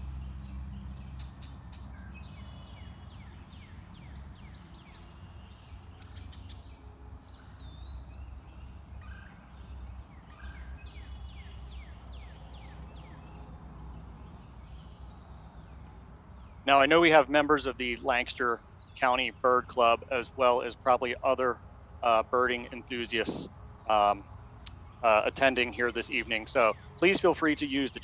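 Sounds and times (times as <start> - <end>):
birds calling: 0.0 - 28.0.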